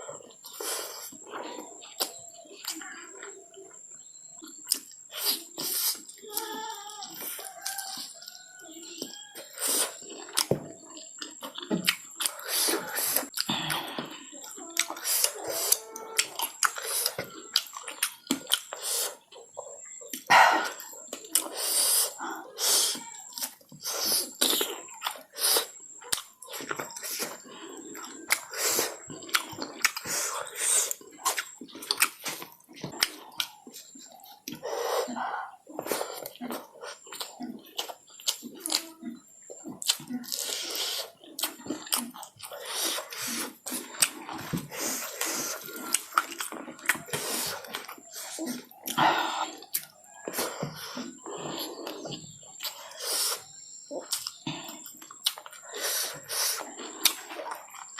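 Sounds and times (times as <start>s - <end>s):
chewing with wet mouth smacks: 0.2s - 6.2s, 7.2s - 22.4s, 23.3s - 34.7s, 35.7s - 57.9s.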